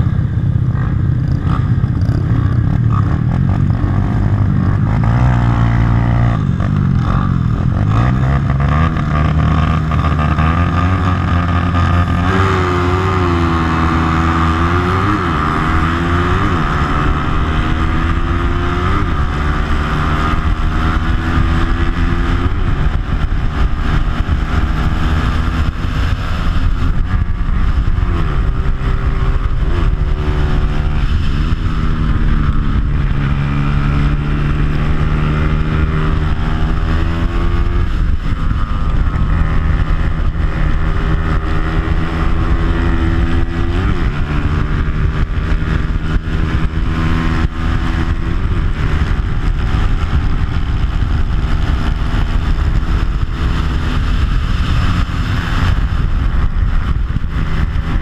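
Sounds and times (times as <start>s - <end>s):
motorcycle engine racing: 0.0s - 58.0s
wind on microphone: 0.0s - 58.0s.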